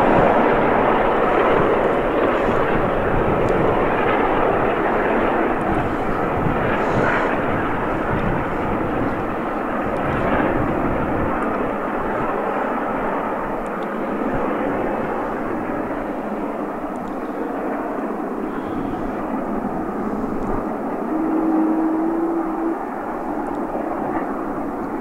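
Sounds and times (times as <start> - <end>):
distant steam locomotive roar: 0.0 - 12.3, 15.1 - 25.0.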